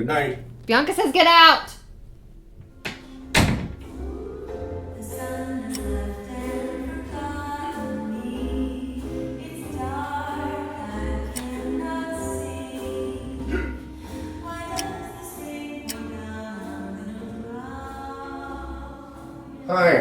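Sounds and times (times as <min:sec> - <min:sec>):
low pulsing bass: 0:00.0 - 0:19.7
choir-like voices singing: 0:02.9 - 0:20.0.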